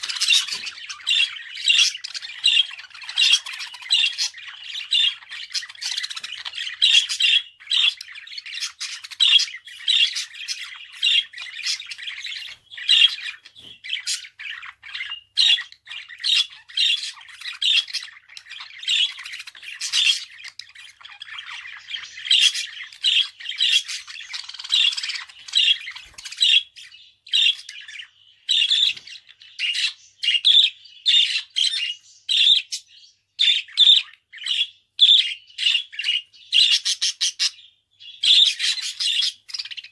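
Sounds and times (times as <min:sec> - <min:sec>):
budgerigar chirping and squawking: 0:00.0 - 0:39.9.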